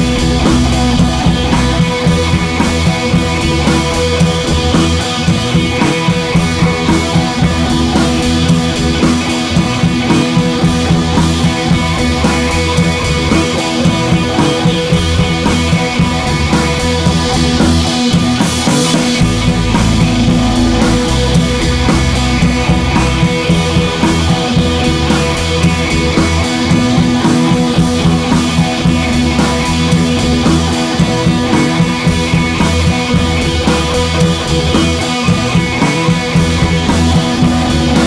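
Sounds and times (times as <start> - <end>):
rock music with guitar and drums: 0.0 - 38.0.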